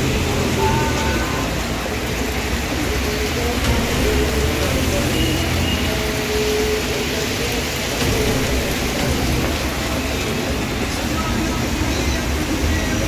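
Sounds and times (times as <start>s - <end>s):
heavy rain on a street: 0.0s - 13.0s
traffic on wet road: 0.0s - 13.0s.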